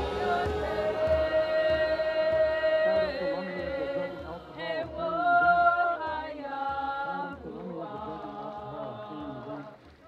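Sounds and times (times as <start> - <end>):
voices singing a chant: 0.0 - 10.0.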